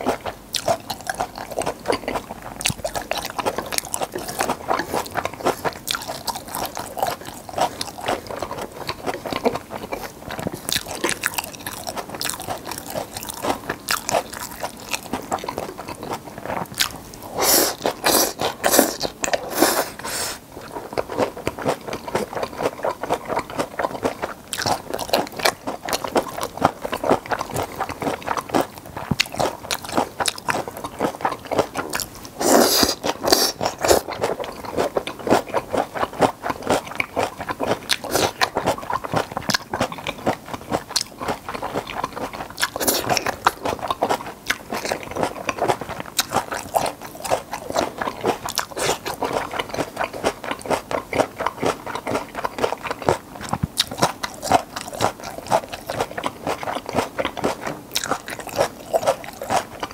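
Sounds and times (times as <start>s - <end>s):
close chewing with clicks: 0.0s - 59.9s.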